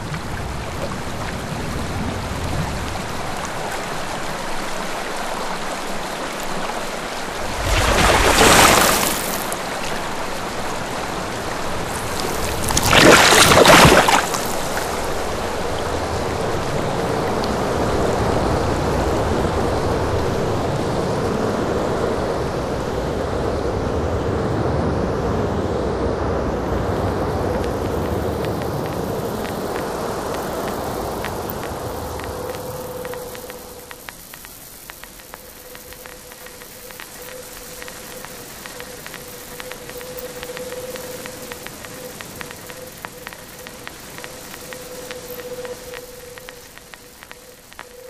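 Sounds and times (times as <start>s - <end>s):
rushing water-like wash: 0.0s - 48.0s.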